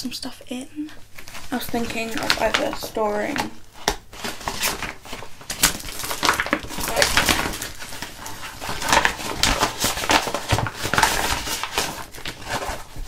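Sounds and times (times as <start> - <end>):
plastic packaging crinkling: 1.1 - 13.0.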